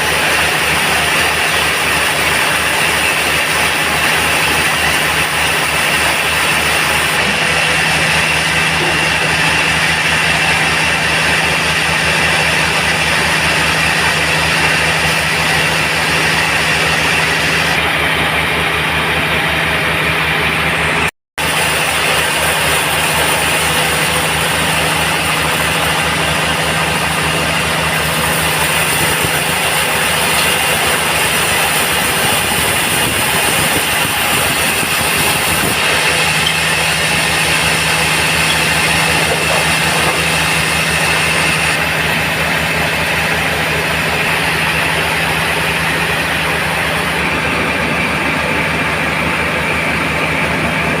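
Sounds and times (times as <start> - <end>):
band sawmill sawing: 0.0 - 51.0
engine pulsing: 0.0 - 51.0.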